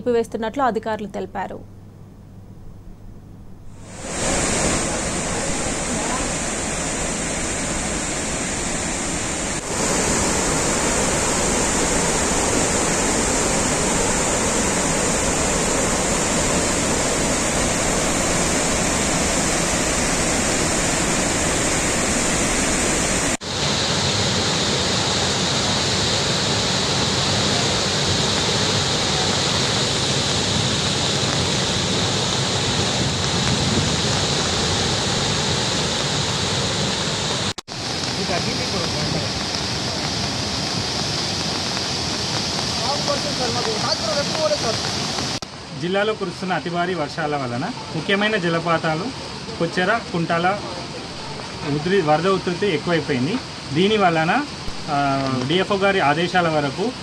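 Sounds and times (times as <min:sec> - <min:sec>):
river water rushing: 0:03.8 - 0:57.0.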